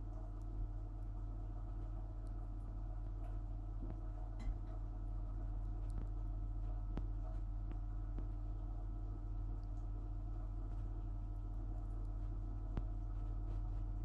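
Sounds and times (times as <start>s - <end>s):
dishwasher motor and pump hum: 0.0s - 14.0s.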